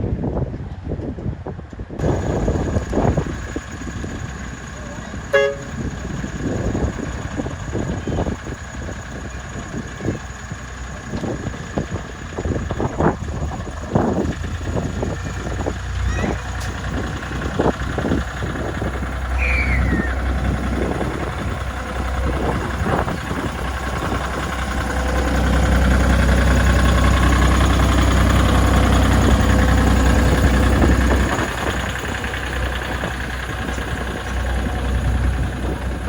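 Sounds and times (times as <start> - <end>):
locomotive engine humming: 0.7 - 36.0.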